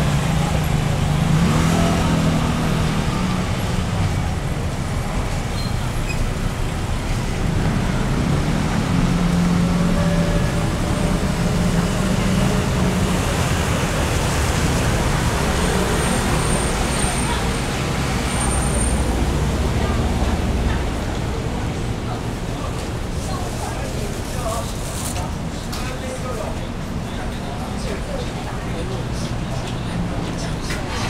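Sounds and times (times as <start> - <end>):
road traffic engine hum: 0.0 - 31.0.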